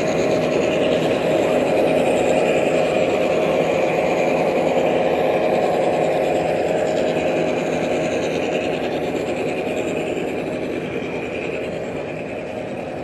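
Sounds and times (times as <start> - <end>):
model train motor hum: 0.0 - 13.0
wheels on rails: 0.0 - 13.0.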